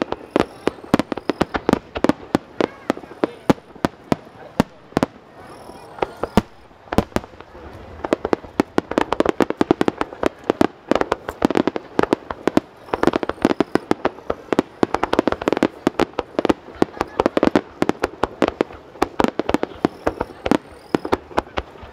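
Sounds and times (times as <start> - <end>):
fireworks bursting: 0.0 - 21.9.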